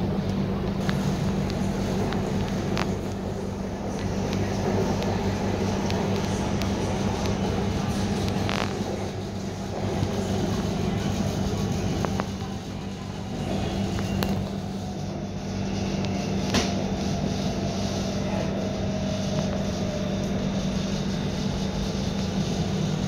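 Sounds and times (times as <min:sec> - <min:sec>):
train cabin rumble: 0:00.0 - 0:23.0.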